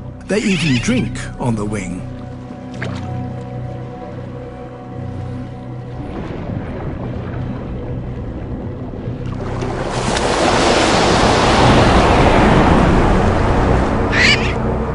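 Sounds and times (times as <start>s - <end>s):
low background music: 0.0s - 14.9s
water rushing and splashing: 0.0s - 14.9s.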